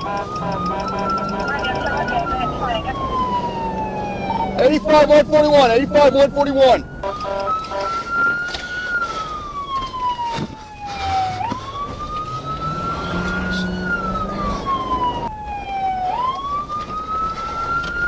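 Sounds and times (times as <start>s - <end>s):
emergency siren wailing: 0.0s - 18.0s.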